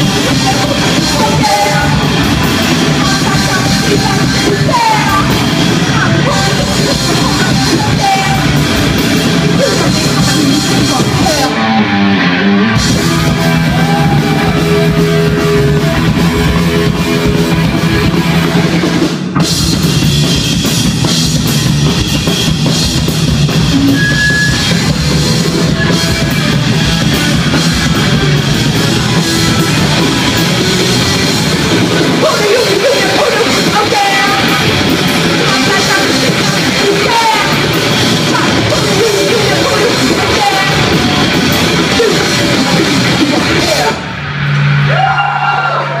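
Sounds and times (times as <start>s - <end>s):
punk rock band playing: 0.0s - 46.0s.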